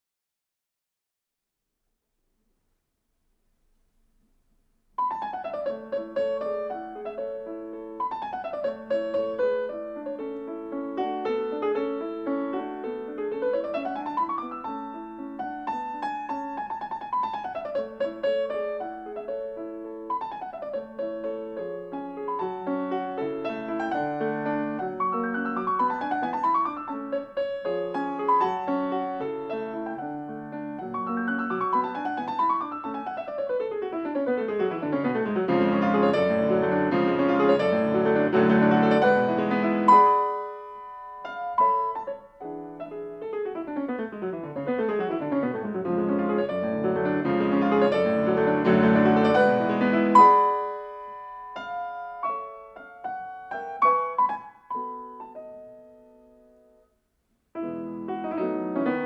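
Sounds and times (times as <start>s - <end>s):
classical solo piano: 5.0s - 56.9s, 57.5s - 59.0s.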